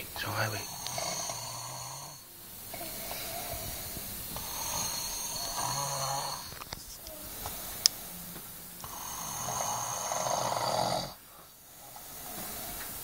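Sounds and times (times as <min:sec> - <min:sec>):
boy snoring: 0:00.2 - 0:13.0.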